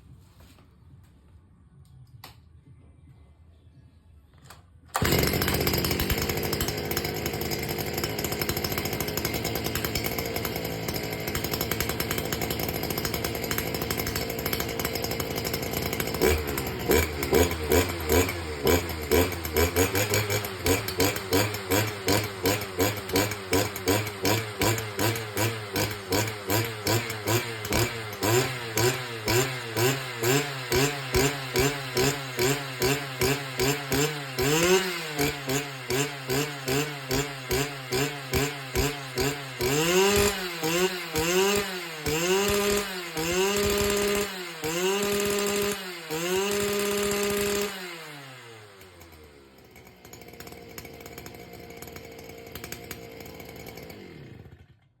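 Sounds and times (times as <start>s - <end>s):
brush cutter engine revving: 4.9s - 54.9s.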